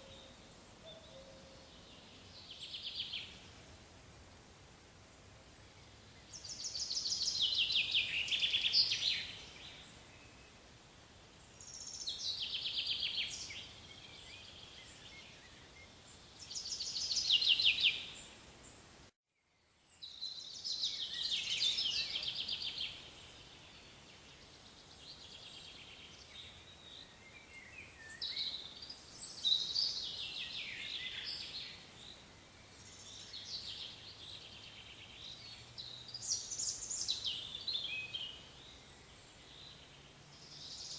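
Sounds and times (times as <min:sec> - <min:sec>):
faint background hiss: 0:00.0 - 0:40.9.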